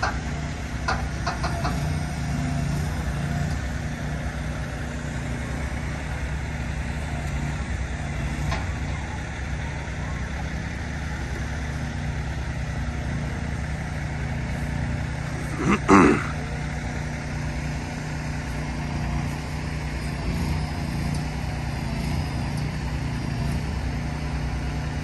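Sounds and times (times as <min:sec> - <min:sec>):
truck engines running low: 0:00.0 - 0:25.0.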